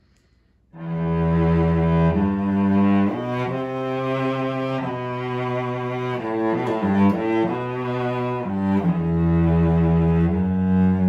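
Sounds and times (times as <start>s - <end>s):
cello bowed: 0.8s - 11.0s.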